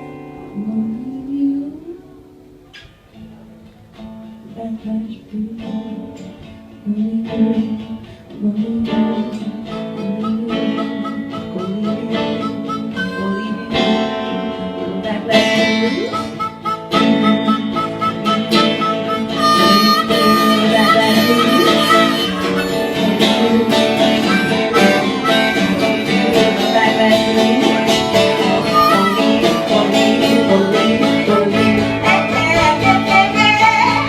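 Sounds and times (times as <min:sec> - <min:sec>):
acoustic guitar blues playing: 0:00.0 - 0:34.0.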